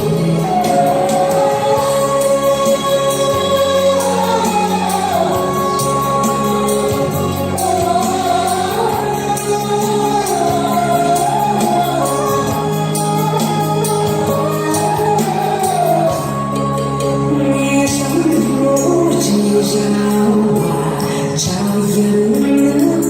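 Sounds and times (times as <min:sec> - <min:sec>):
song with sung melody: 0:00.0 - 0:23.0.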